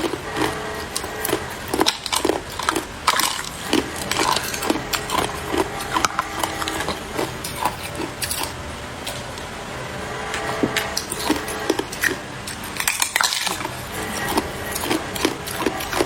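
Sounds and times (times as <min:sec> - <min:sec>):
ice crunching in mouth: 0:00.0 - 0:09.2, 0:11.0 - 0:16.0.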